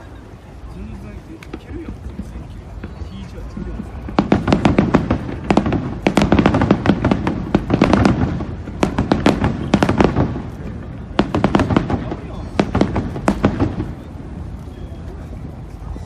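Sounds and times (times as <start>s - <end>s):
fireworks bangs and pops: 1.3s - 15.9s.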